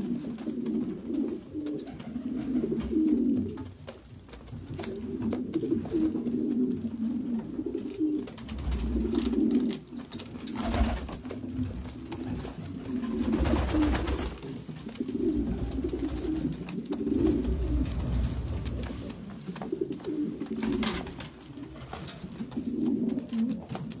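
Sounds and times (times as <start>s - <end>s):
pigeons cooing: 0.0s - 3.9s, 4.6s - 24.0s.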